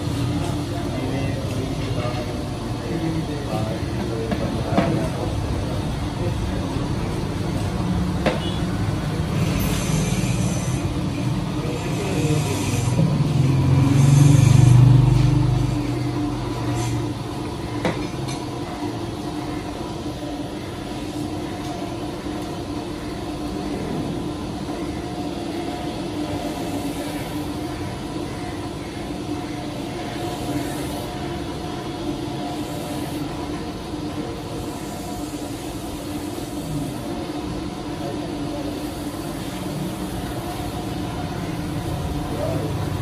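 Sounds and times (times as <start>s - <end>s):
machinery hum: 0.0s - 43.0s.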